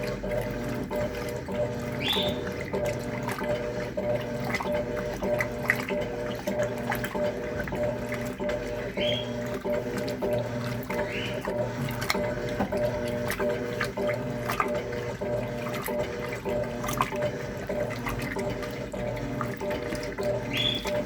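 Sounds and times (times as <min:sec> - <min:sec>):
pulsing motor hum: 0:00.0 - 0:21.0
water sloshing in washing machine: 0:00.0 - 0:21.0.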